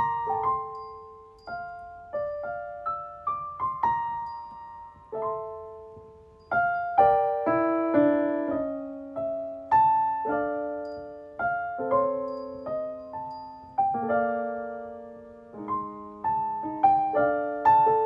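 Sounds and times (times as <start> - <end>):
slow piano notes and chords: 0.0 - 18.0.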